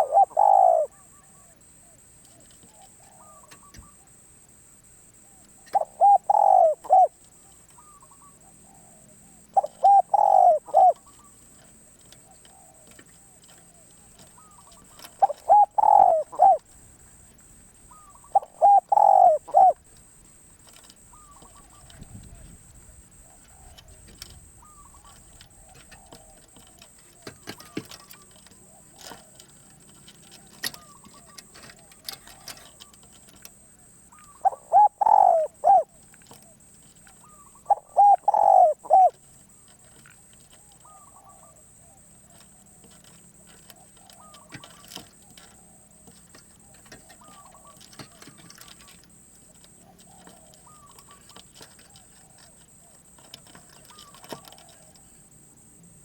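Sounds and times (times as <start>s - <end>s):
dove cooing: 0.0s - 4.2s, 5.1s - 55.6s
faint bird calls: 0.0s - 56.0s.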